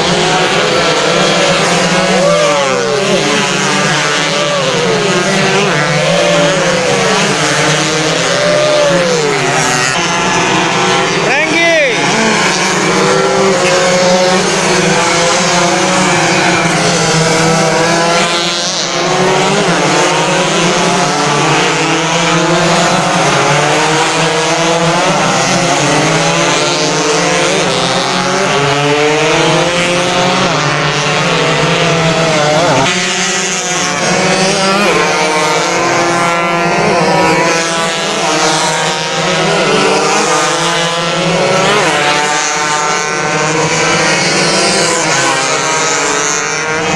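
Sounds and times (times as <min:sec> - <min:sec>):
racing motorcycles at full throttle: 0:00.0 - 0:46.9.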